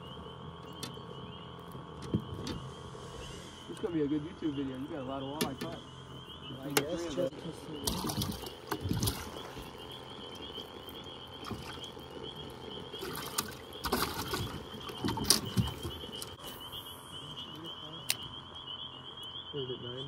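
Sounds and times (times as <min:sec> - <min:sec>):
frogs trilling: 0:00.0 - 0:20.0.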